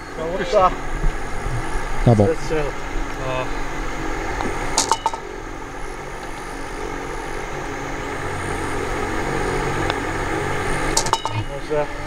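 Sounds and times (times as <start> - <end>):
low drone: 0.0 - 12.0.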